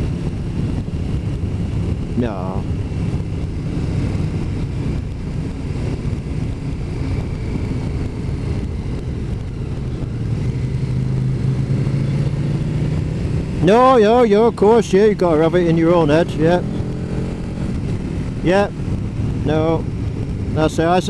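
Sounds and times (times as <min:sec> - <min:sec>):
motorcycle engine cruising: 0:00.0 - 0:21.0
road and wind noise: 0:00.0 - 0:21.0.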